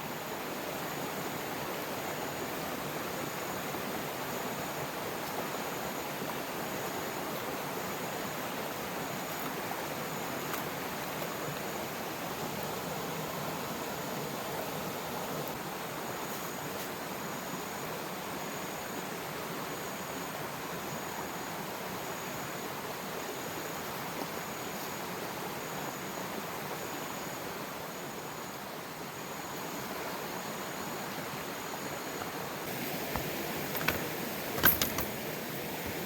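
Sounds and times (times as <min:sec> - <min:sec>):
river water flowing: 0:00.0 - 0:36.0.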